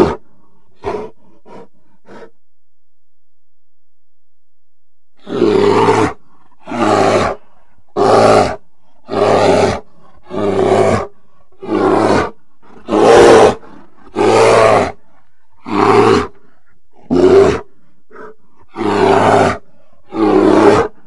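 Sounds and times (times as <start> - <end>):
bear growling: 0.0 - 2.4, 5.2 - 21.0.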